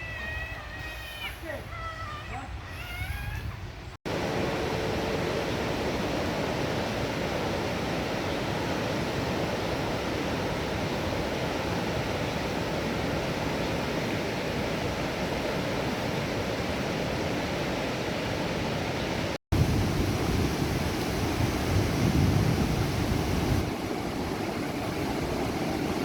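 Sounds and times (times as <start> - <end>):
waterfall roaring: 4.1 - 26.0.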